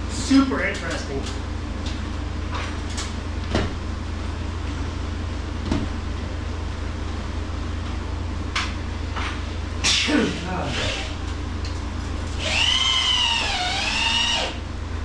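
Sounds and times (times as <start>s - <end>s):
refrigeration unit humming: 0.0s - 15.0s.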